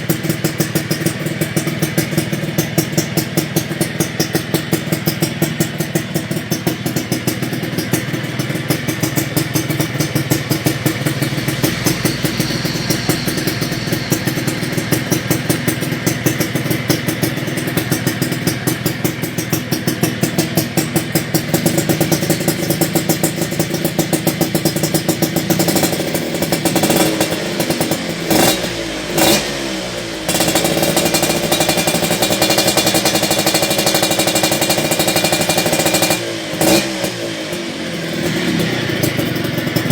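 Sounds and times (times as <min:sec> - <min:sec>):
two-stroke engine idling and revving: 0:00.0 - 0:39.9.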